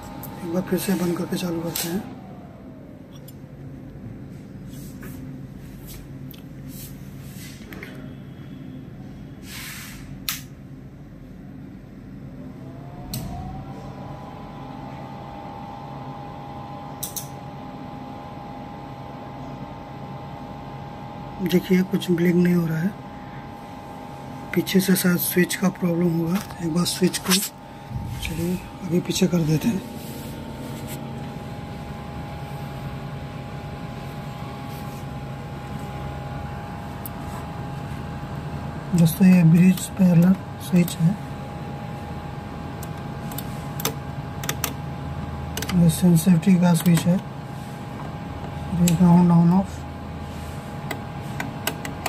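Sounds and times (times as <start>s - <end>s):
low steady hum: 0.0s - 9.4s, 10.2s - 52.0s
amplifier cooling fan whine: 0.0s - 52.0s.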